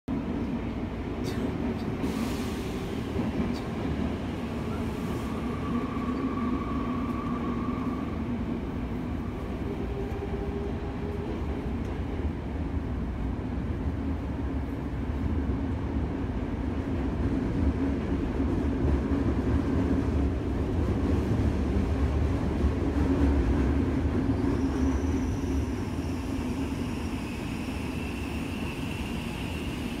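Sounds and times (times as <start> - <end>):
train rumbling inside carriage: 0.1 - 30.0.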